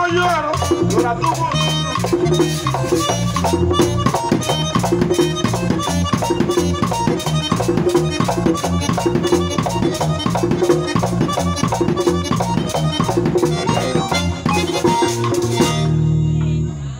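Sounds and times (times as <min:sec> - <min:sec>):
repeating drum beat: 0:00.0 - 0:16.0
electric guitar: 0:00.0 - 0:16.9.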